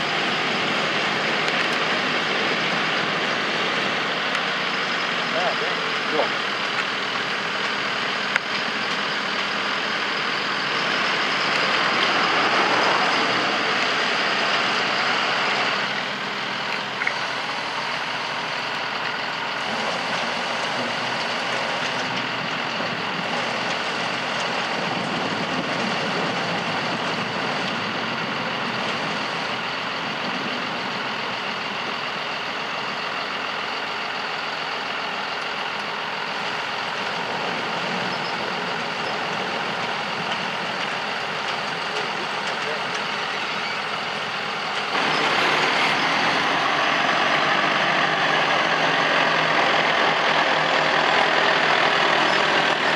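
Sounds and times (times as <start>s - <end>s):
potato harvester running: 0.0s - 52.9s
tractor passing: 0.0s - 52.9s.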